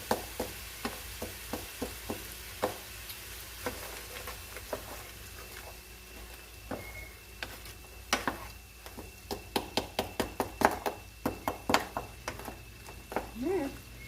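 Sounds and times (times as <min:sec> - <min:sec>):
vegetables sizzling in a frying pan: 0:00.0 - 0:14.0.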